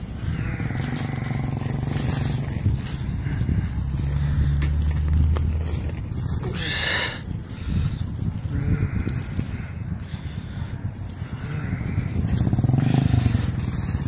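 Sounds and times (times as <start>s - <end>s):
engine running at low revs: 0.0s - 6.6s, 7.6s - 14.0s.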